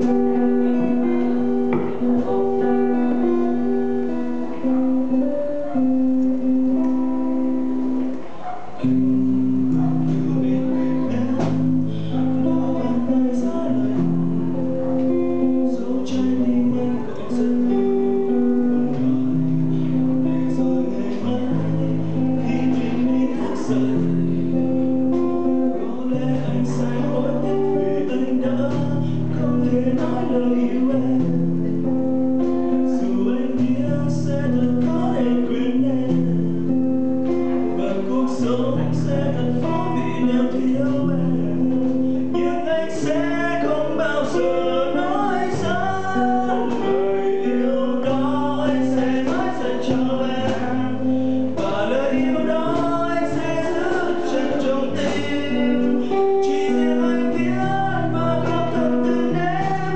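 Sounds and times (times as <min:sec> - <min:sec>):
acoustic guitar: 0:00.0 - 0:59.9
man singing: 0:00.0 - 0:59.9.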